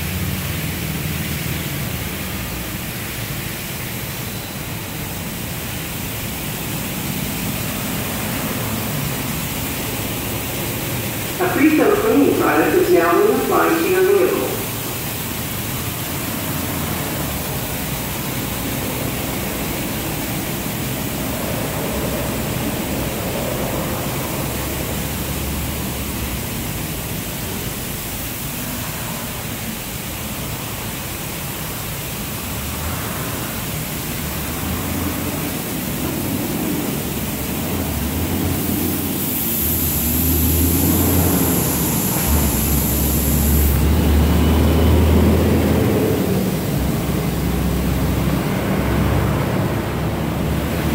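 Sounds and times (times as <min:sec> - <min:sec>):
sharp high hiss: 0:00.0 - 0:48.2
car wash spray hissing: 0:00.0 - 0:50.9.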